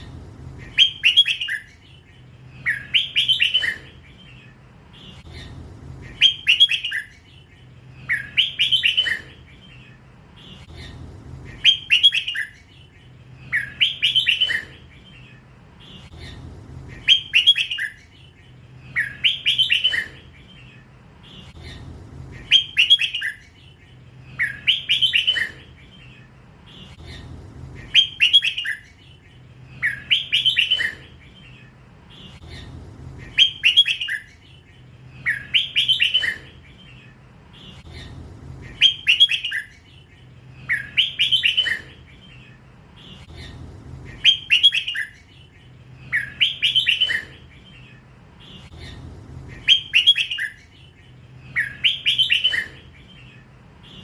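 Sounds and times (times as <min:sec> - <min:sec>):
bird whistling song: 0:00.0 - 0:54.0
faint low hum: 0:00.0 - 0:54.0.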